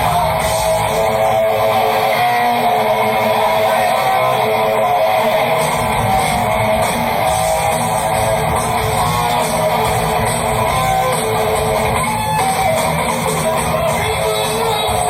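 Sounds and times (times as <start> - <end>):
electric guitar: 0.0 - 15.0
heavy metal band playing live: 0.0 - 15.0.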